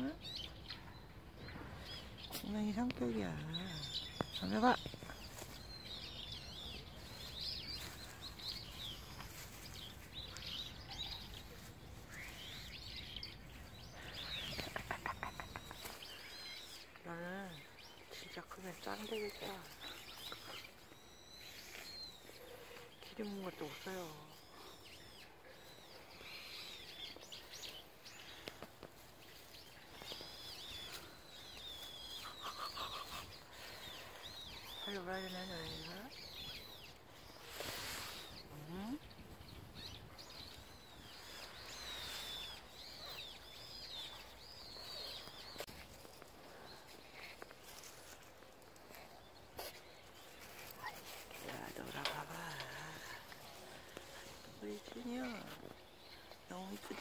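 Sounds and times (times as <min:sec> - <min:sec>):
small birds chirping: 0:00.0 - 0:57.0
faint ticks and rustles: 0:01.5 - 0:57.0.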